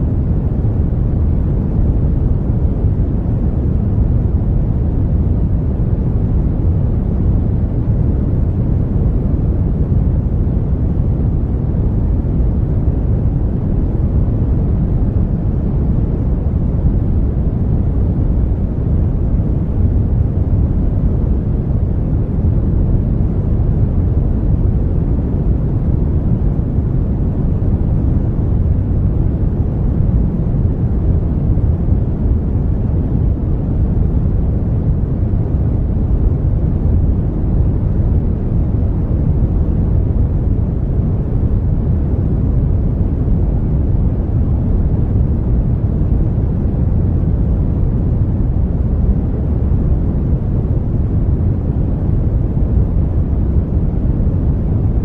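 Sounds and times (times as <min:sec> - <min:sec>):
brown noise: 0:00.0 - 0:55.0.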